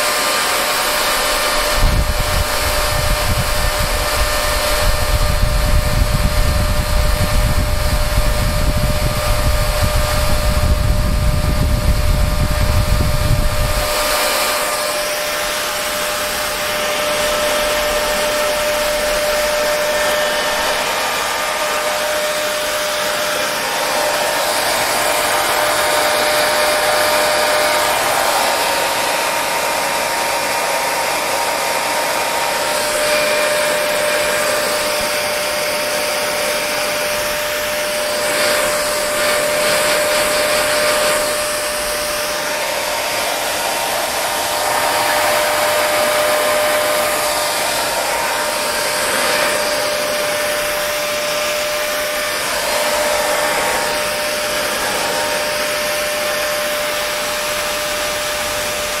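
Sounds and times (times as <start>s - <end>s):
hair dryer blowing air: 0.0s - 59.0s.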